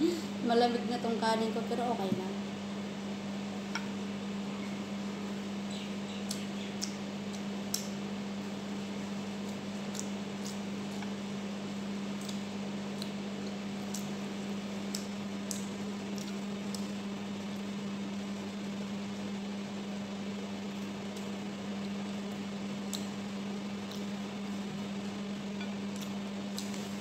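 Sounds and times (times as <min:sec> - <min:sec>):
appliance electrical hum: 0:00.0 - 0:27.0.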